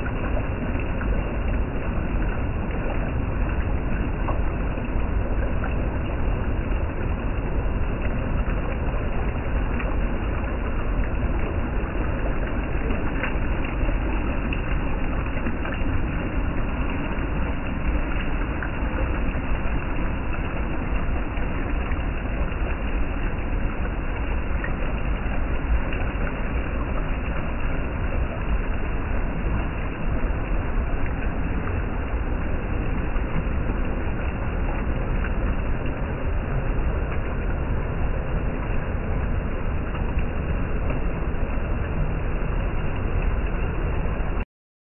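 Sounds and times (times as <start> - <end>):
deep water rumble: 0.0 - 44.4
stream water rushing over rocks: 0.0 - 44.4.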